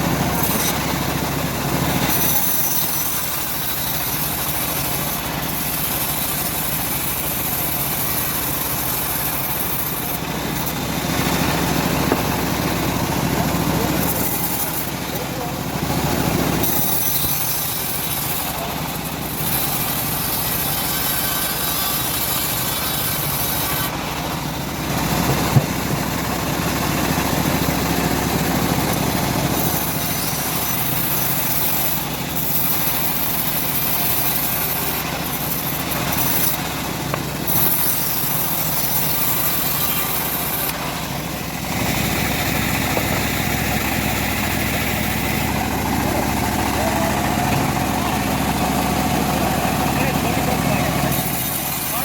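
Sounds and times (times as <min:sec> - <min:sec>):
blade hissing through wood: 0:00.0 - 0:52.0
engine-driven bandsaw mill running: 0:00.0 - 0:52.0.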